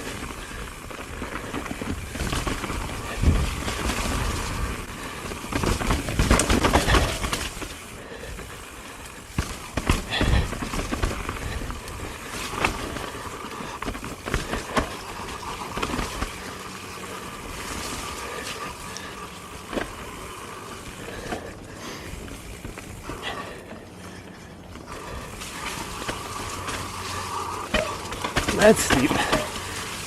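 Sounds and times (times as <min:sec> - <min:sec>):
bike knocking and rattling: 0:00.0 - 0:30.0
bike tyres rolling on dirt and snow: 0:00.0 - 0:30.0.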